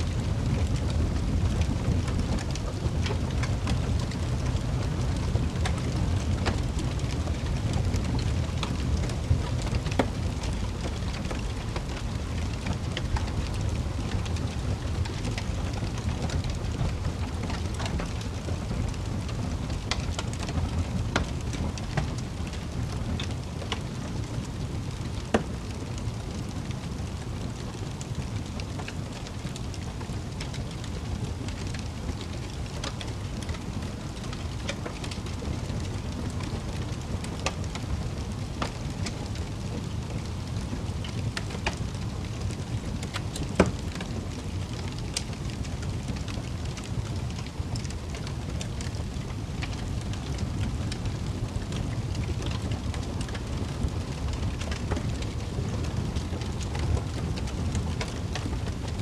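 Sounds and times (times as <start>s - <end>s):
fire crackling and popping: 0.0s - 59.0s
fire rumbling: 0.0s - 59.0s.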